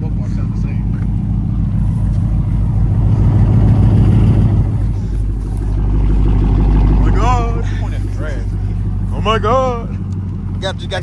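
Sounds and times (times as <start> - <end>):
car engine idling lumpy: 0.0 - 11.0.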